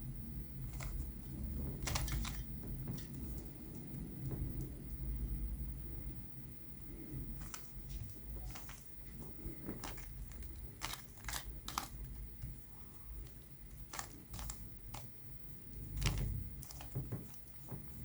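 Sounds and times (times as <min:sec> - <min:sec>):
low rumble of handling: 0:00.0 - 0:18.0.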